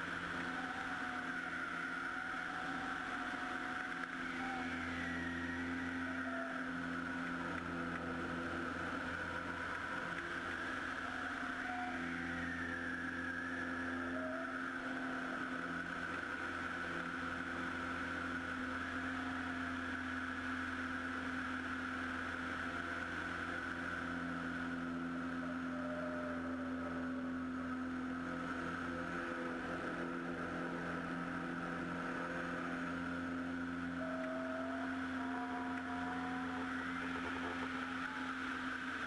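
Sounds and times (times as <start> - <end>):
aircraft engine and propeller droning: 0.0 - 39.0.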